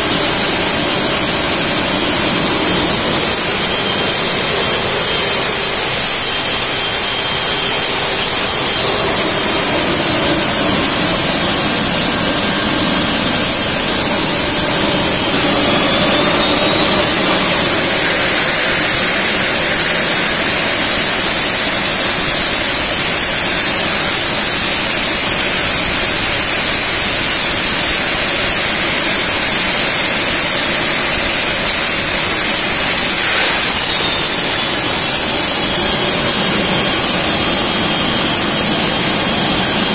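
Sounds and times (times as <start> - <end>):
gas turbine whine: 0.0 - 39.9.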